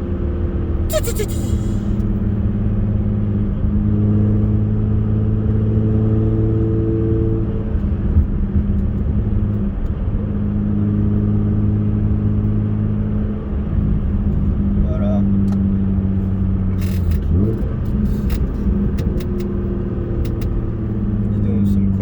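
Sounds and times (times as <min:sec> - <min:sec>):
car engine drone: 0:00.0 - 0:22.0.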